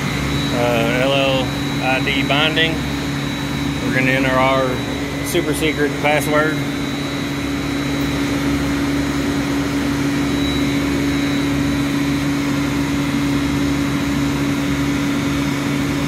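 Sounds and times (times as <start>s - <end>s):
machinery droning: 0.0s - 16.0s.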